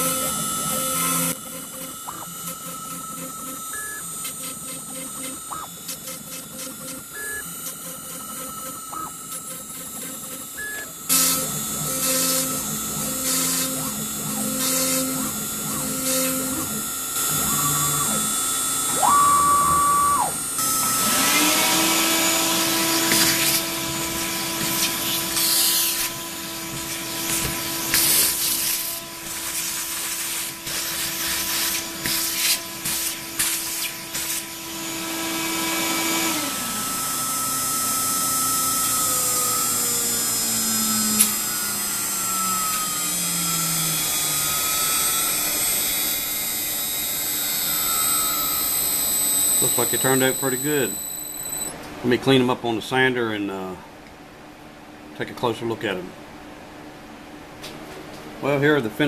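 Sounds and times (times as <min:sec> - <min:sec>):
cnc router motors whining: 0:00.0 - 0:51.8
shop vacuum running: 0:00.0 - 0:53.8.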